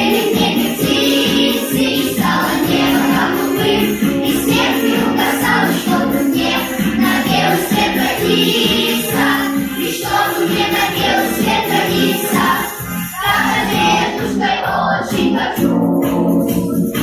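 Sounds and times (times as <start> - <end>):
group of voices singing: 0.0 - 17.0
instrumental backing track: 0.0 - 17.0.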